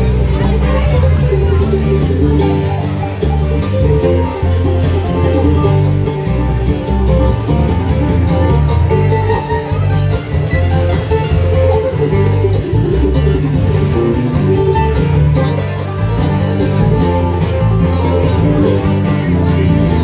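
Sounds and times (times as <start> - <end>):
bluegrass band playing: 0.0 - 20.0.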